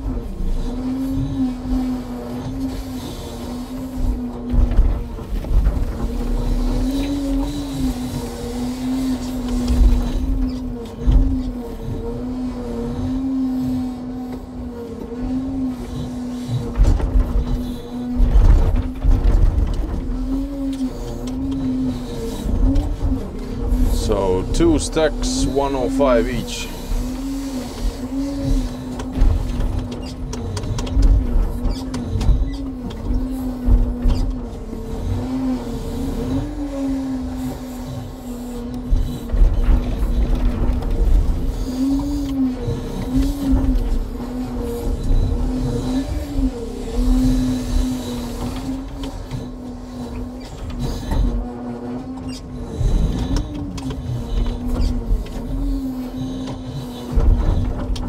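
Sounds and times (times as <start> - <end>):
diesel truck engine running: 3.3 - 51.4.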